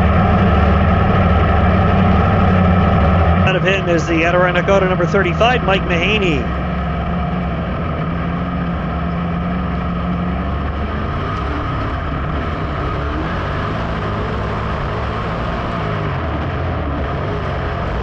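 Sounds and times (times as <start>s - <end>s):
other race car engines: 0.0s - 18.0s
race car engine running: 0.0s - 18.0s.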